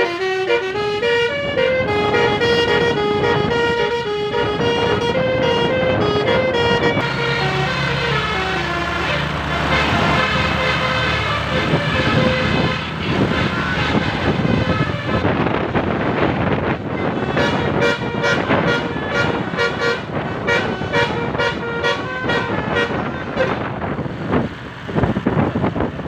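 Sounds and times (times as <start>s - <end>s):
musical bus horn playing a tune: 0.0s - 24.0s
road noise: 0.0s - 26.0s.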